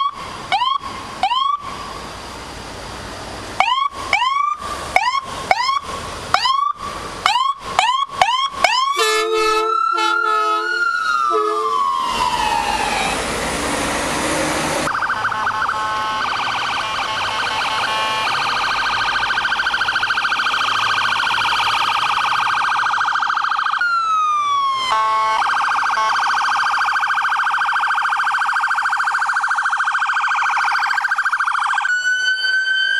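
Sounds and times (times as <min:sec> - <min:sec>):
emergency vehicle sirens: 0:00.0 - 0:32.9.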